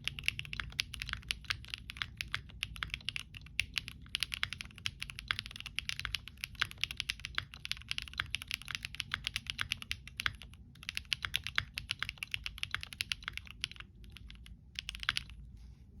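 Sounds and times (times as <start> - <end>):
mechanical keyboard typing: 0.0 - 15.4.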